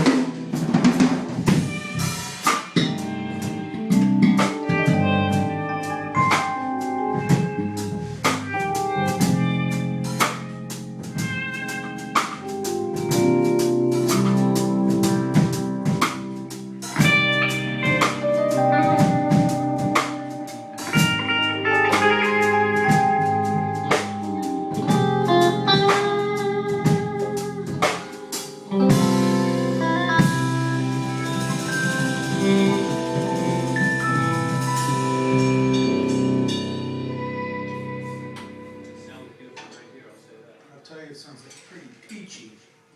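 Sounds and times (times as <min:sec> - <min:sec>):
live blues-rock band playing: 0:00.0 - 0:39.5
drum kit with cymbals: 0:00.0 - 0:39.8
sustained guitar notes: 0:00.0 - 0:40.4.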